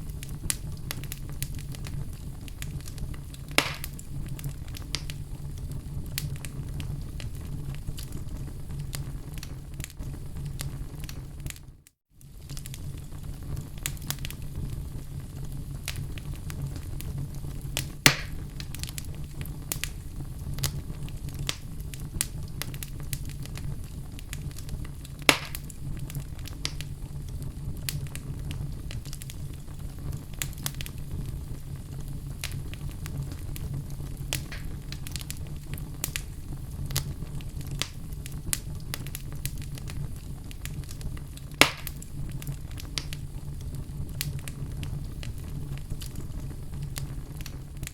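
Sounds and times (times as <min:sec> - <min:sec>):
fire low rumble: 0:00.0 - 0:47.9
fire popping: 0:00.0 - 0:47.9
wood fire crackling: 0:00.0 - 0:47.9.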